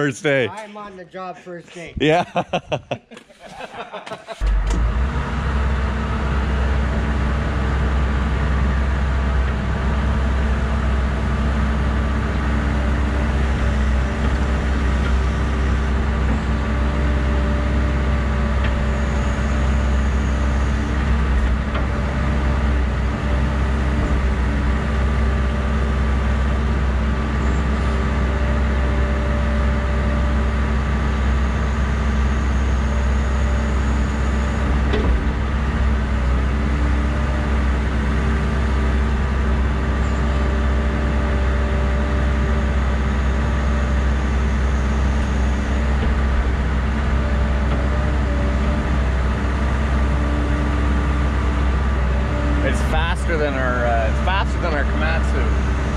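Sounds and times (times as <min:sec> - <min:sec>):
excavator diesel engine running: 0:04.2 - 0:55.9.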